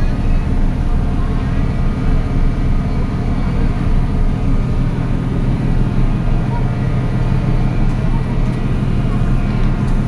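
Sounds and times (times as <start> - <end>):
low rumble on moving ferry: 0.0 - 10.0.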